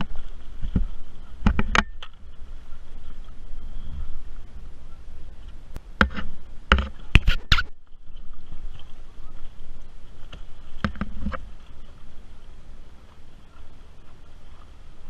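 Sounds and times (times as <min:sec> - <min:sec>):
water splashing: 0:00.0 - 0:15.0
wind rumble on microphone: 0:00.0 - 0:15.0.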